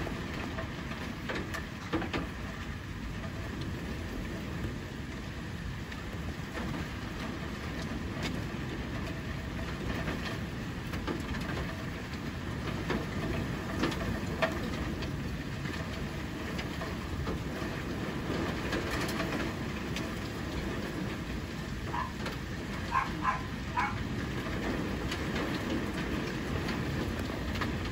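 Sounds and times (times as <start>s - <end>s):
hailstones ticking: 0.0s - 27.9s
heavy rain roaring: 0.0s - 27.9s.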